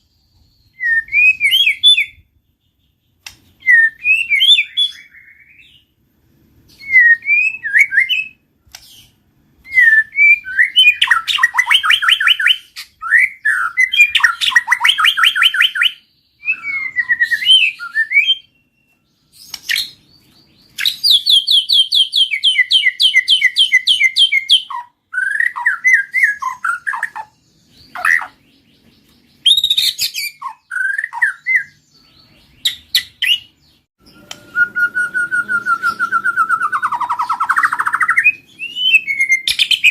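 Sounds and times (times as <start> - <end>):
bird singing whistles and trills: 0.0 - 6.0, 6.7 - 39.9.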